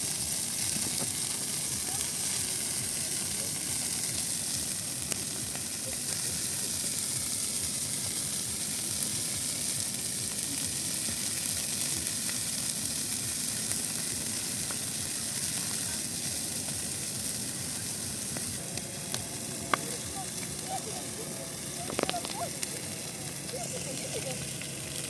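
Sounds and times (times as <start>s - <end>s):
bonfire crackling and hissing: 0.0s - 25.0s
faint pops from fire: 0.2s - 21.0s, 21.6s - 25.0s.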